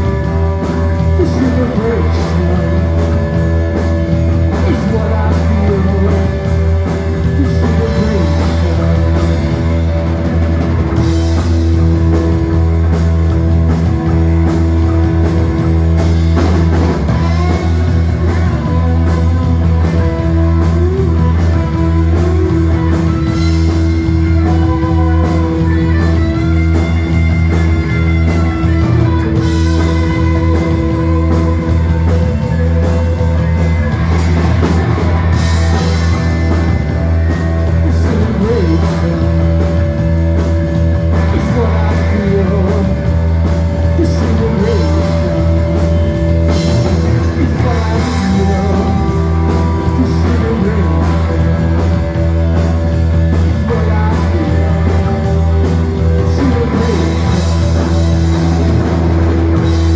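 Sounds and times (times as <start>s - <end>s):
drum kit: 0.0s - 59.9s
electric bass: 0.0s - 59.9s
electric guitars: 0.0s - 59.9s.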